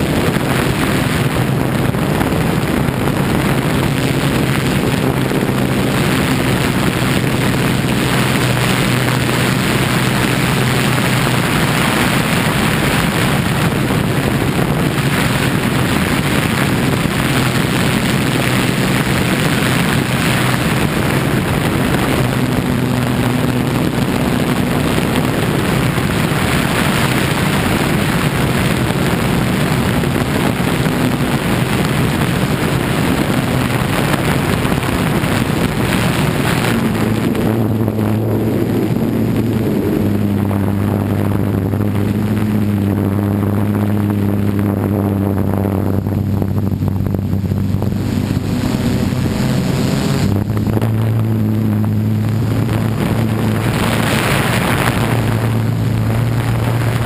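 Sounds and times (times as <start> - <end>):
quadcopter motors humming: 0.0 - 57.0
rush of air: 0.0 - 57.0.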